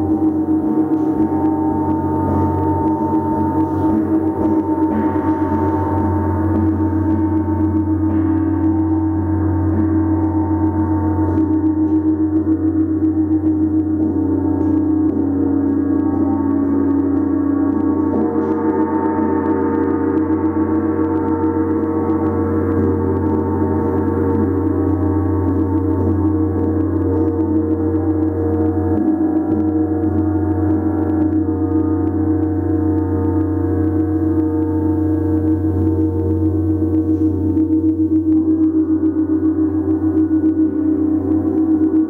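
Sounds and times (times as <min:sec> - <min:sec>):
gong ringing: 0:00.0 - 0:42.0.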